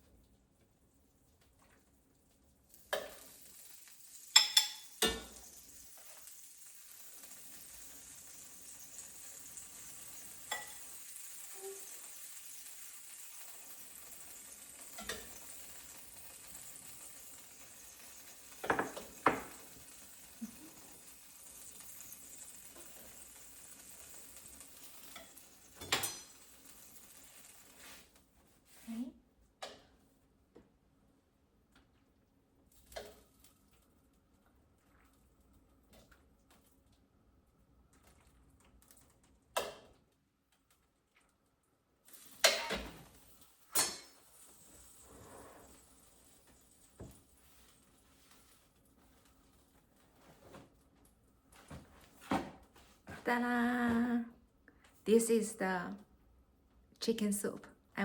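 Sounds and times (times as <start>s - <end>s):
faint sizzling hiss: 0.0s - 58.0s.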